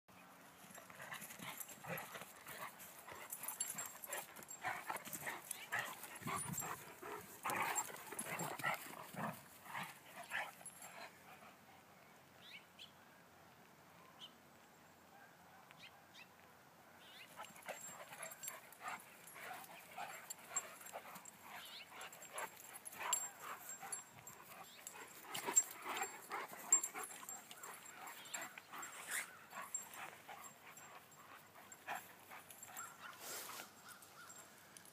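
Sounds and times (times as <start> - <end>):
dogs play-wrestling: 0.5 - 11.6, 17.3 - 34.9.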